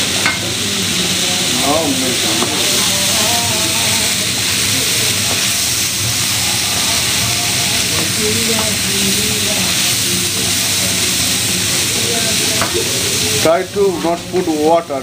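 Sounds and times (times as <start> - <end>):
vegetables frying hiss: 0.0 - 15.0.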